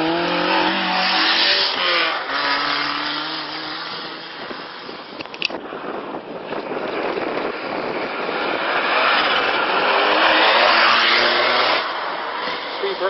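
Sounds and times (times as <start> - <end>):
rally car passing at speed: 0.0 - 5.2, 6.7 - 13.0.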